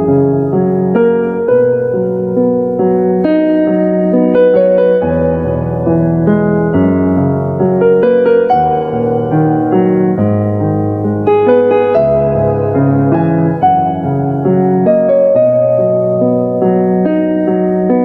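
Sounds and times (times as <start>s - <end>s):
gentle piano melody: 0.0s - 18.0s
sustained bass notes: 0.0s - 18.0s.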